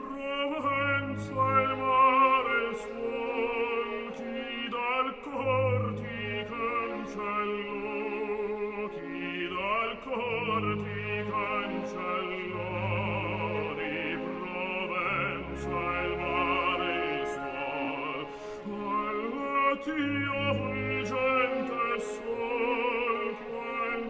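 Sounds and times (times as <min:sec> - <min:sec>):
opera singer with vibrato: 0:00.0 - 0:24.0
orchestral accompaniment: 0:00.0 - 0:24.0.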